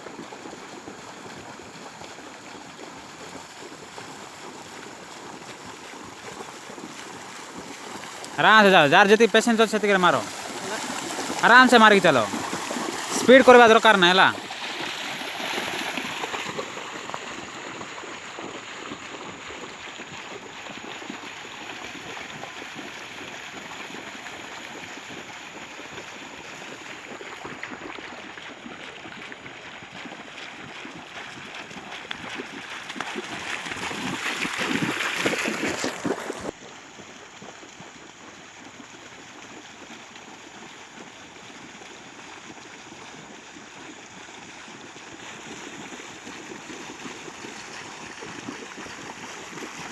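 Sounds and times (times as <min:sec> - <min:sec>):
moving water rushing: 0:00.0 - 0:37.9, 0:38.6 - 0:49.9.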